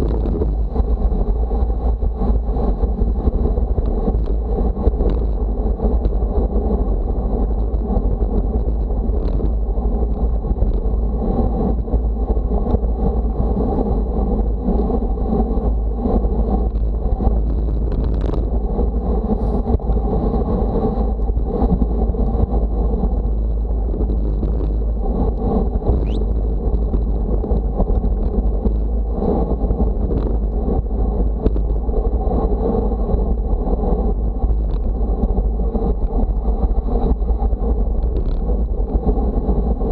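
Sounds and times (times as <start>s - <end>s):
loud rumbling travel noise: 0.0s - 39.9s.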